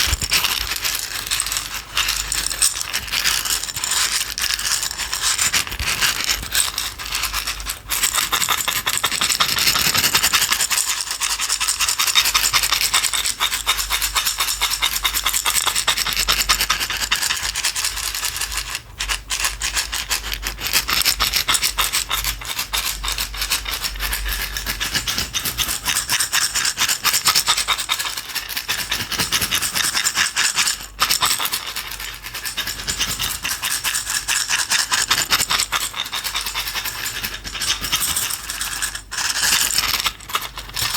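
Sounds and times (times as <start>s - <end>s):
container of hard pieces rattling: 0.0s - 40.9s.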